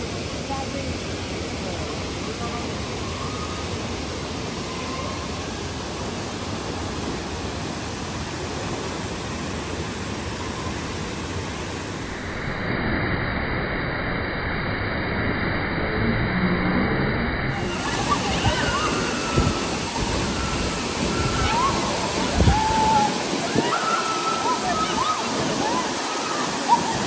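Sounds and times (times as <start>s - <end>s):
waterfall rushing: 0.0s - 12.7s, 17.5s - 27.0s.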